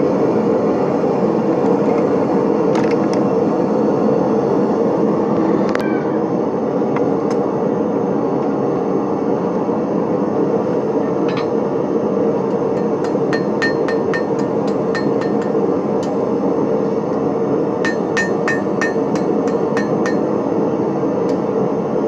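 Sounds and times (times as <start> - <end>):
gas burner roaring: 0.0 - 22.0.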